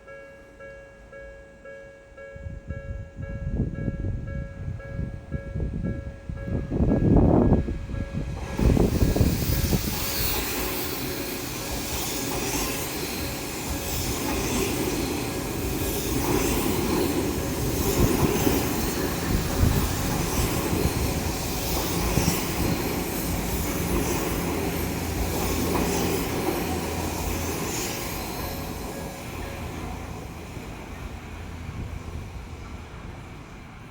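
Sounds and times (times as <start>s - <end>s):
train wheels rumbling on rails: 3.2s - 33.9s.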